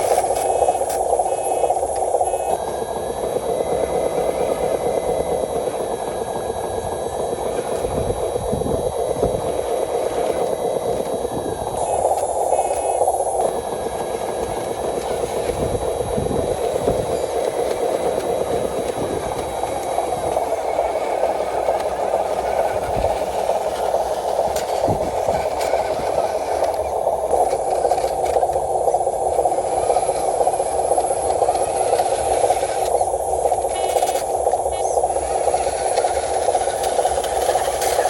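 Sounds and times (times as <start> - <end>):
toy truck motor whirring: 0.0 - 38.0.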